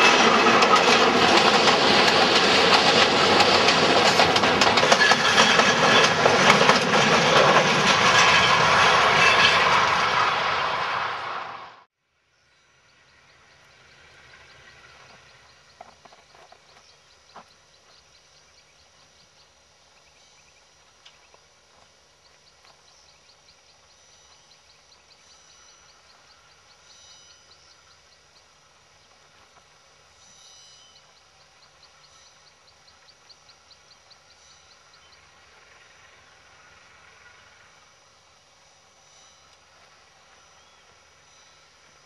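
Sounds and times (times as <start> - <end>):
distant diesel locomotive rumble: 0.0 - 11.9, 12.7 - 42.0.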